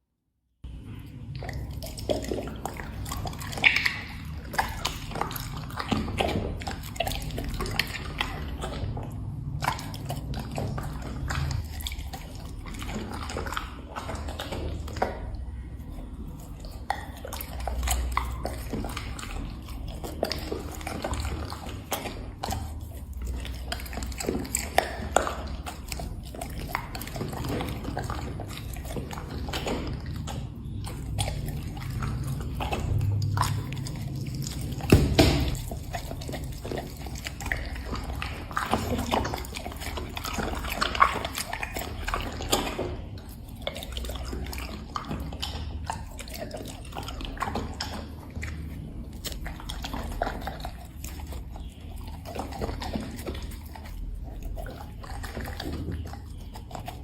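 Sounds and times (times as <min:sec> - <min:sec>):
dog chewing and smacking lips: 0:00.6 - 0:57.0.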